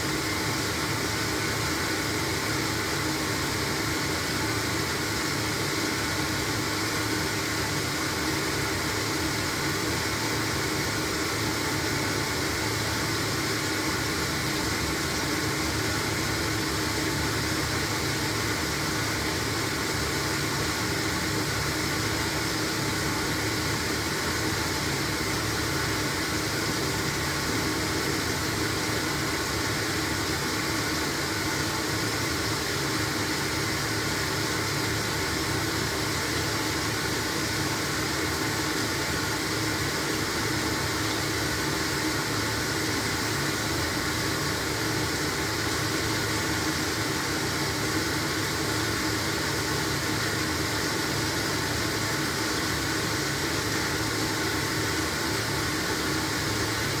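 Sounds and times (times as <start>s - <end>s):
washing machine running: 0.0s - 57.0s.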